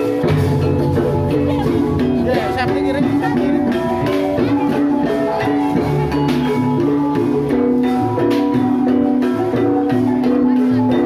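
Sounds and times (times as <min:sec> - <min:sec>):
drums: 0:00.0 - 0:11.0
tuned mallet percussion: 0:00.0 - 0:11.0.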